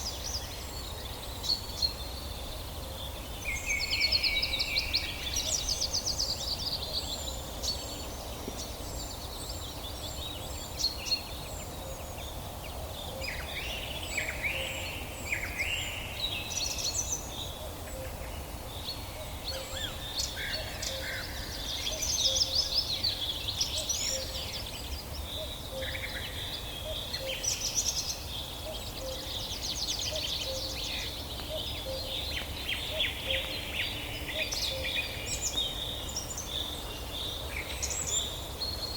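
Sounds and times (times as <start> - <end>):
songbirds chirping and trilling: 0.0 - 38.9
steady background hiss: 0.0 - 38.9.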